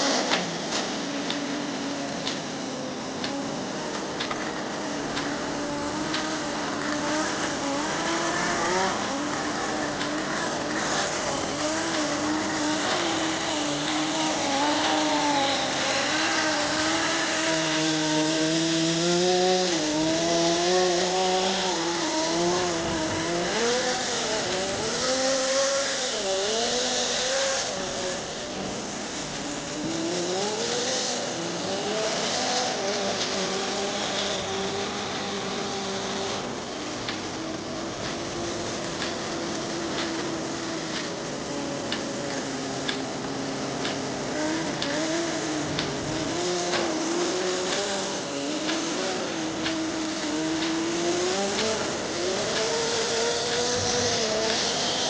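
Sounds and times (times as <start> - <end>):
model nitro engine revving: 0.0 - 55.0
steady hiss: 2.9 - 55.0.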